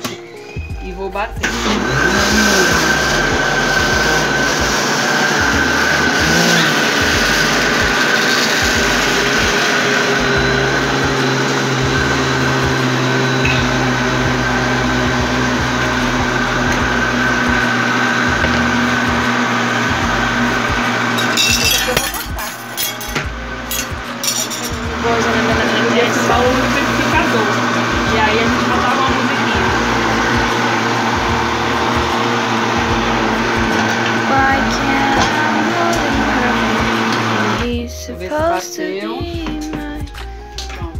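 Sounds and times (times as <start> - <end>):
electric blender running: 0.0 - 37.9.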